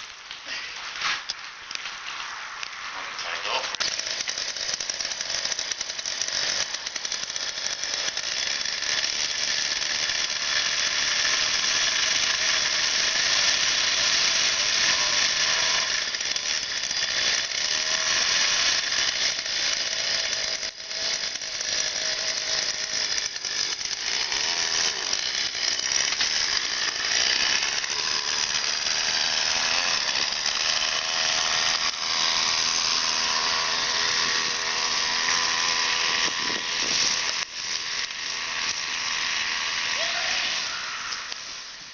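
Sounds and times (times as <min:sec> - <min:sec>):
two-stroke engine buzzing: 0:03.2 - 0:41.9.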